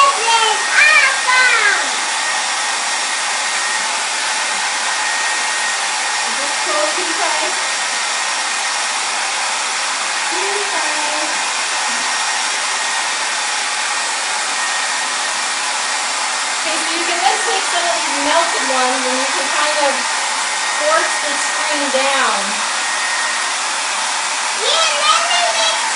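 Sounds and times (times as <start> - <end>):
hair dryer blowing: 0.0 - 25.9.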